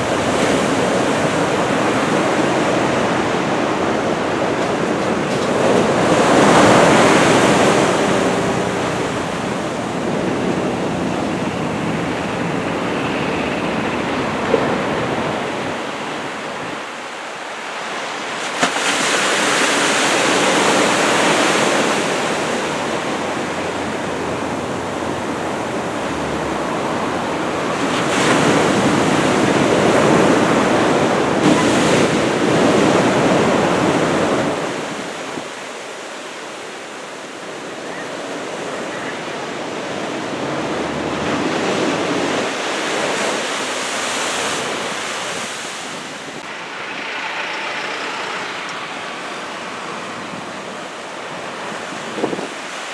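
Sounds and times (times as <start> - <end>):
heavy ocean surf breaking: 0.0 - 52.9.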